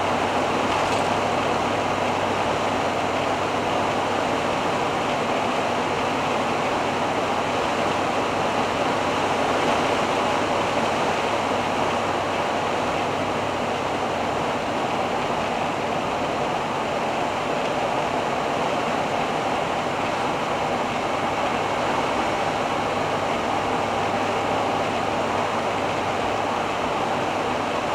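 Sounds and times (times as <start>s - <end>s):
road and wind noise in a cab: 0.0s - 27.9s.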